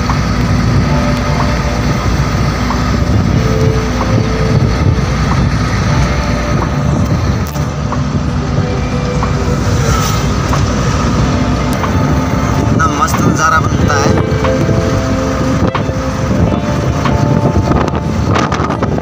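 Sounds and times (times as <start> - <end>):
truck engine and tyre noise: 0.0 - 19.0.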